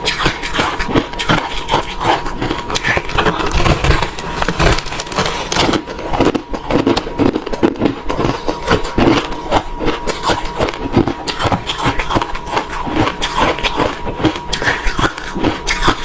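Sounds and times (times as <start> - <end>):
crushed ice being chewed: 0.0 - 16.0.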